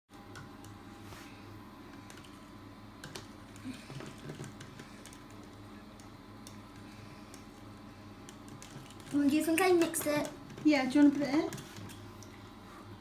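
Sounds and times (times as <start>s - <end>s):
light clicks and taps from mixing: 1.9s - 12.6s.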